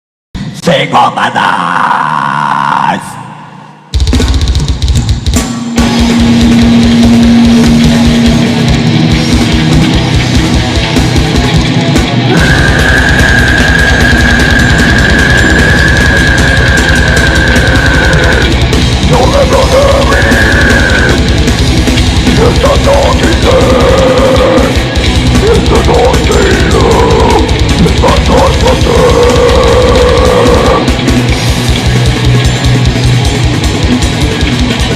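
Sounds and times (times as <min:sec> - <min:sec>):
distorted guitar: 0:00.4 - 0:34.9
heavy metal band playing live: 0:00.4 - 0:34.9
fast drum beat: 0:04.0 - 0:34.9.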